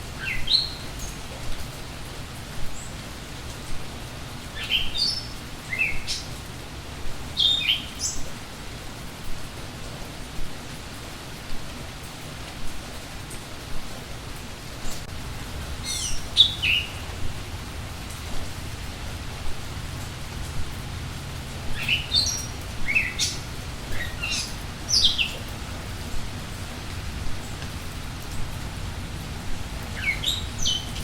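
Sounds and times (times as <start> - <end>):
songbirds chirping: 0.0 - 9.1, 14.7 - 31.0
steady rain falling: 0.0 - 31.0.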